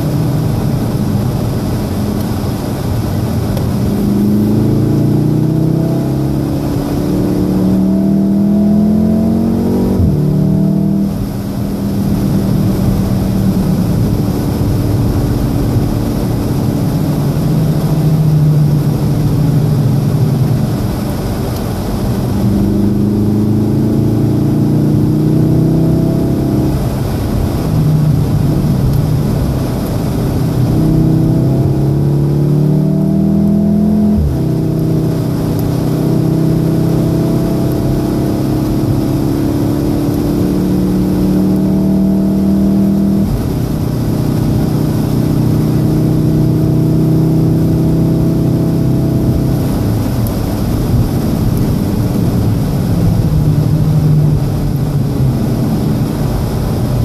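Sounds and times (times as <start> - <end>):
car engine accelerating hard: 0.0 - 57.0
rain and wet-road spray hiss: 0.0 - 57.0.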